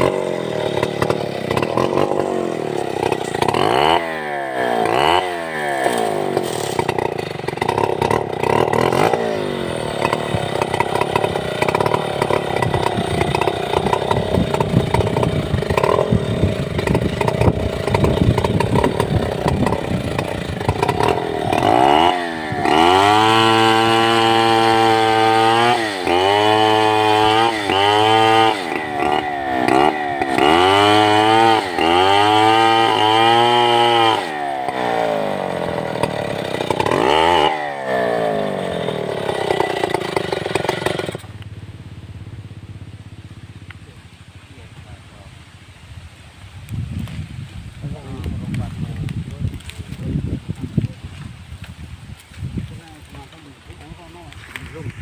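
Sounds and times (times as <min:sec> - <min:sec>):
chainsaw engine revving: 0:00.0 - 0:45.3, 0:52.5 - 0:55.0.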